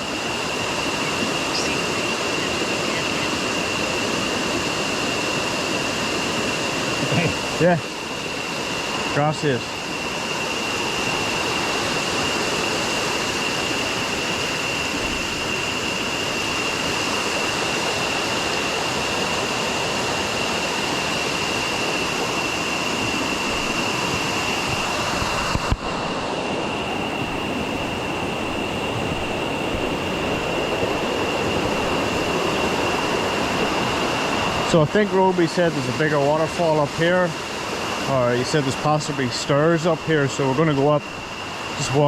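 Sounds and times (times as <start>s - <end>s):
river and waterfall rushing: 0.0s - 14.5s, 15.4s - 42.0s.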